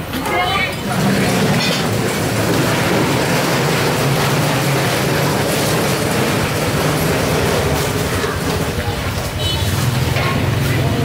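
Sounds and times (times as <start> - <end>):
street traffic roar: 0.0 - 11.0.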